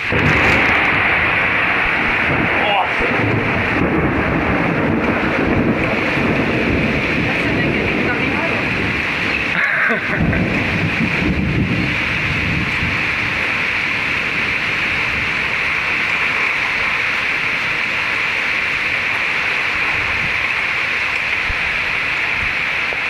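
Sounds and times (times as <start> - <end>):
heavy rain falling: 0.0 - 23.0
thunder rumble: 0.0 - 23.0.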